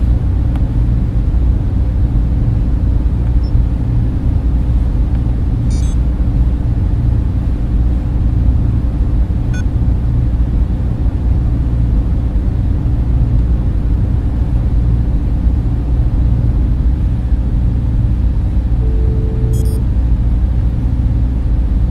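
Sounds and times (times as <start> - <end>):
whir of cooling fans: 0.0 - 21.9.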